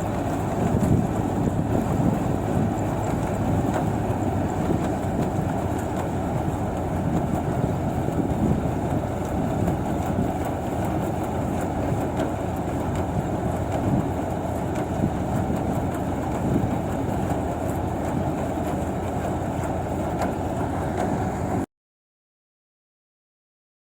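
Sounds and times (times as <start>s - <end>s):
combine harvester running: 0.0s - 21.7s.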